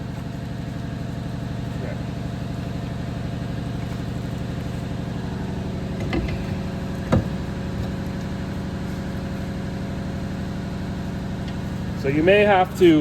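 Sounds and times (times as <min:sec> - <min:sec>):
machine pulsing hum: 0:01.8 - 0:13.0.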